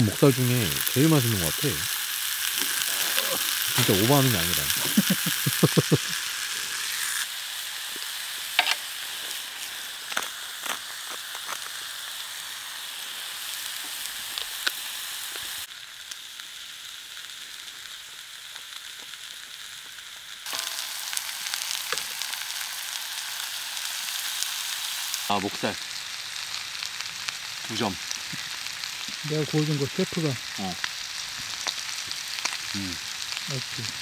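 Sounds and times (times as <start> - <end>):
meat sizzling in a pan: 0.0 - 34.0.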